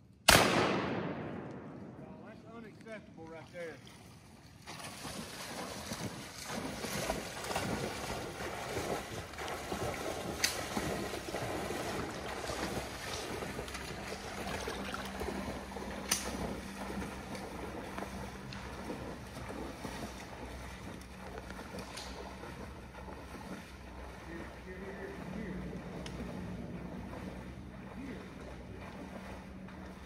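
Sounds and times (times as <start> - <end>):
legs sloshing through water: 3.2 - 30.0.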